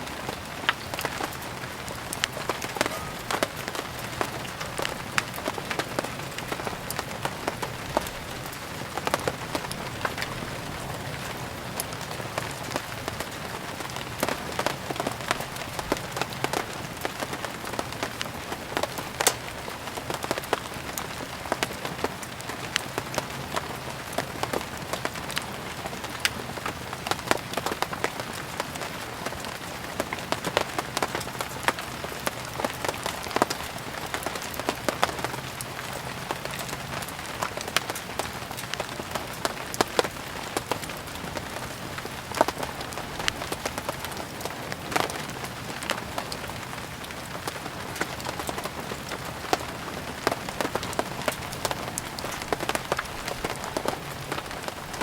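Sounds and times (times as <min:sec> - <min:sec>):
burning firewood crackling: 0:00.0 - 0:55.0
steady rain falling: 0:00.0 - 0:55.0.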